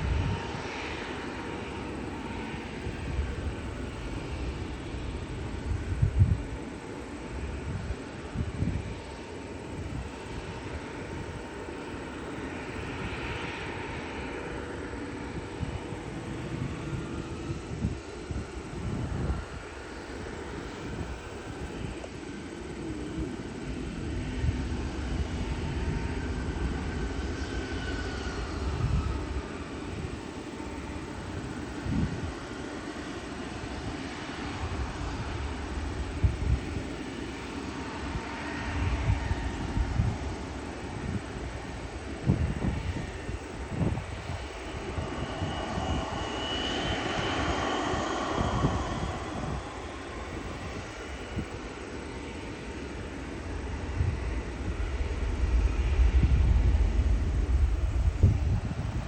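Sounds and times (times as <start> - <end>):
faint jet engine whine: 0.0 - 59.0
jet airliner engine rumble: 0.0 - 59.0.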